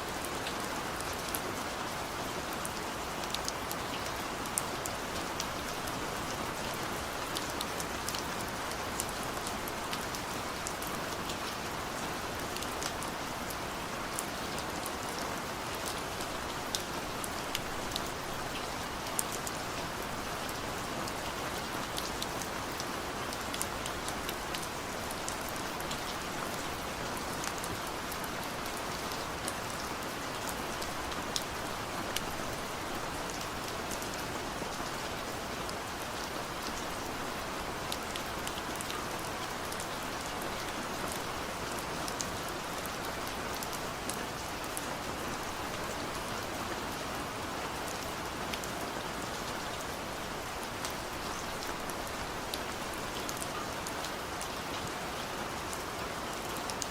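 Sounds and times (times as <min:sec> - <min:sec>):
steady rainfall: 0:00.0 - 0:56.9.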